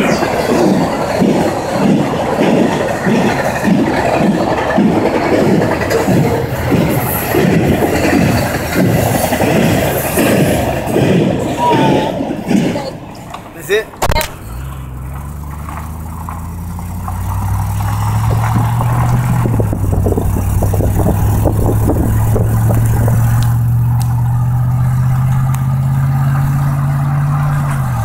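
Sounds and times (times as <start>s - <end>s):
road noise: 0.0s - 28.0s
vehicle engine drone: 0.0s - 28.0s.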